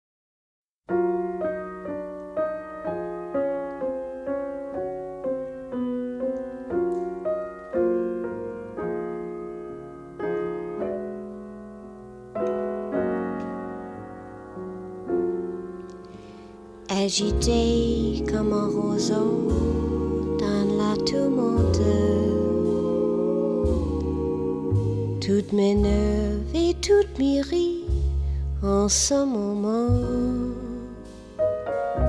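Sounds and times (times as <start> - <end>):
slow solo piano: 0.9 - 32.0.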